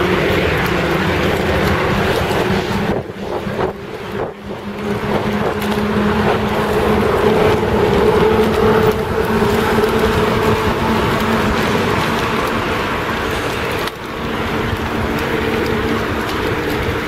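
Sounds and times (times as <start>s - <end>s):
rolling rumble on pavement: 0.0s - 17.0s.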